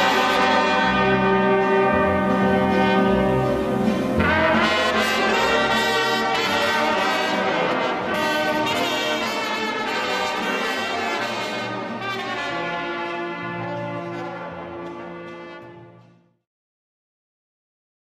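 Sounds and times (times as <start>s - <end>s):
brass band playing: 0.0s - 16.3s.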